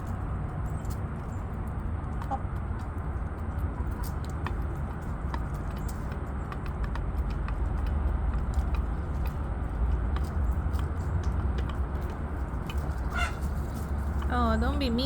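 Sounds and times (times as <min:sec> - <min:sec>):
chickens pecking on board: 0:00.0 - 0:15.0.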